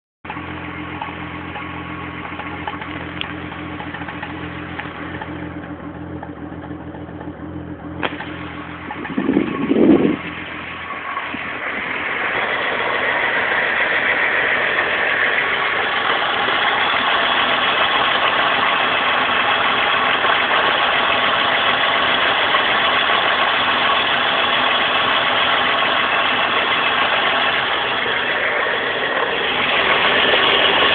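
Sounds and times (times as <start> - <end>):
misfiring engine idling: 0.2 - 30.9.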